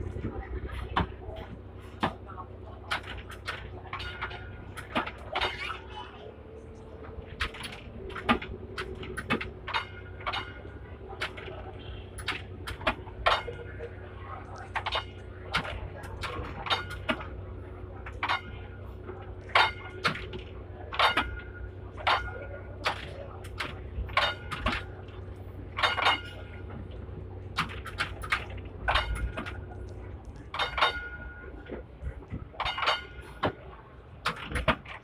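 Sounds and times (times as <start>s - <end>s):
tram running hum: 0.0s - 35.0s.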